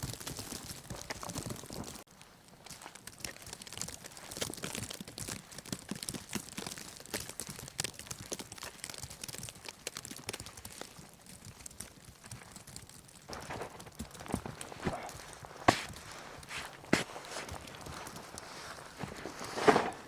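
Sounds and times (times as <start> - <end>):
crunches in snow: 0.0 - 20.0.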